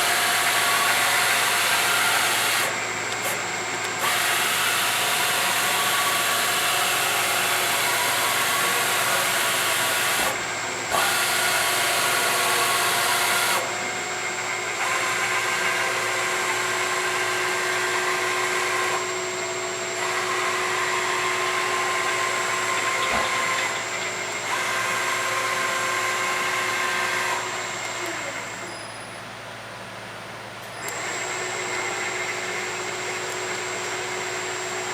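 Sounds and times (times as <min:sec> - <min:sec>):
mill motors whining: 0:00.0 - 0:34.9.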